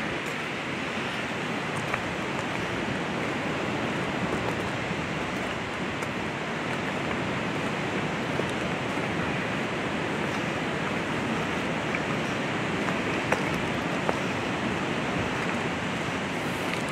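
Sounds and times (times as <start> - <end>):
river rushing: 0.0 - 16.9.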